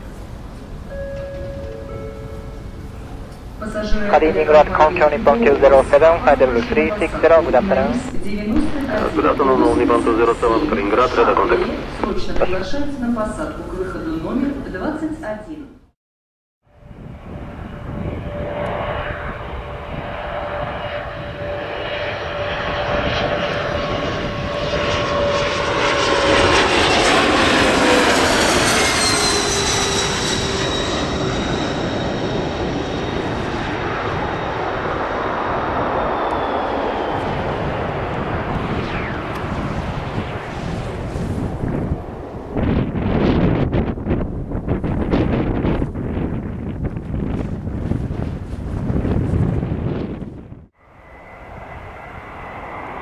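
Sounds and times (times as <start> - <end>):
jet taking off: 0.0 - 14.8, 16.7 - 53.0.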